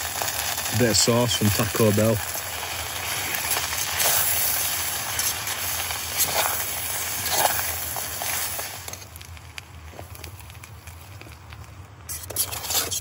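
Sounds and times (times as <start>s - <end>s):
noodles sizzling in a pot: 0.0s - 13.0s.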